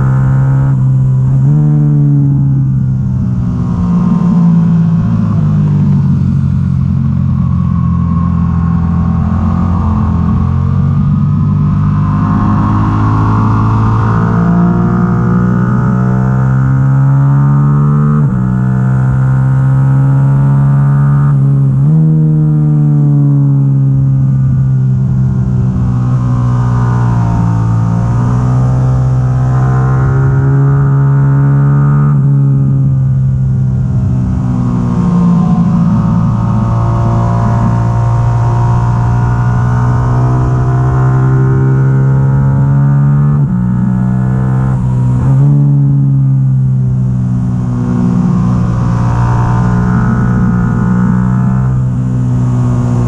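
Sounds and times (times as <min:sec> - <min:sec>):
motorcycle engine at race pace: 0:00.0 - 0:53.0.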